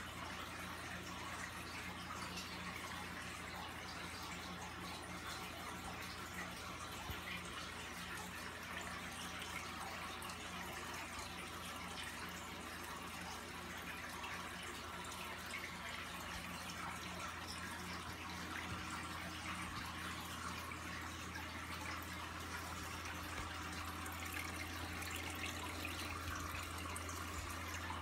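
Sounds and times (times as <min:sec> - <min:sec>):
aquarium filter water bubbling: 0:00.0 - 0:28.0
low steady hum: 0:00.0 - 0:28.0.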